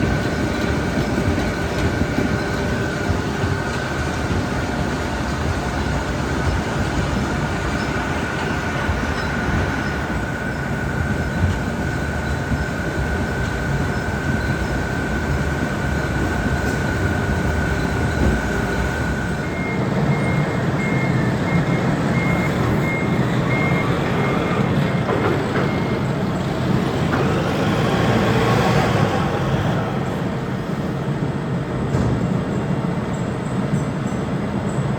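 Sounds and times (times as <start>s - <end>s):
harvester engine drone: 0.0s - 34.9s.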